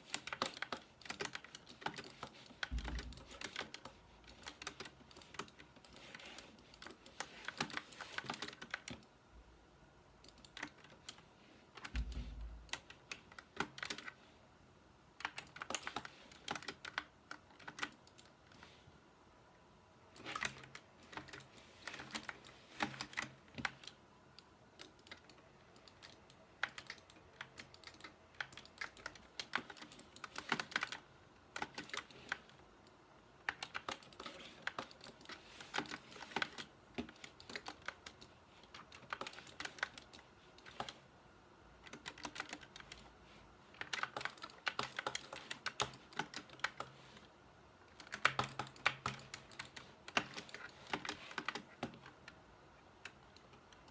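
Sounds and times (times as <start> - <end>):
mechanical keyboard typing: 0.0 - 9.1, 10.2 - 14.2, 15.2 - 18.7, 20.1 - 41.0, 41.8 - 43.1, 43.8 - 47.0, 47.9 - 52.4.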